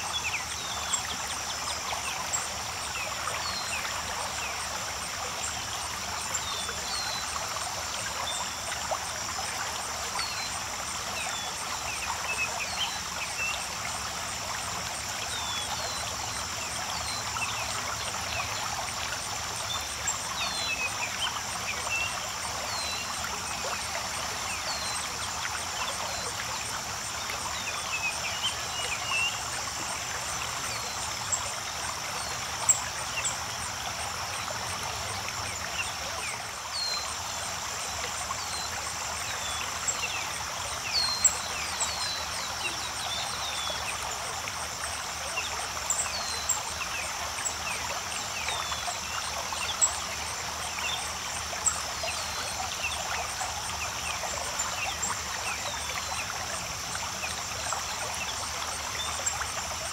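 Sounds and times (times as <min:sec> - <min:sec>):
creek rushing over cascade: 0:00.0 - 0:59.9.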